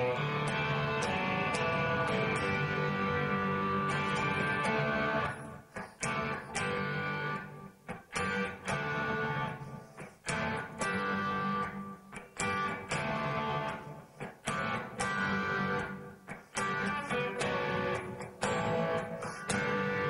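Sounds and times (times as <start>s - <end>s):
electric guitar chords: 0.0s - 20.0s.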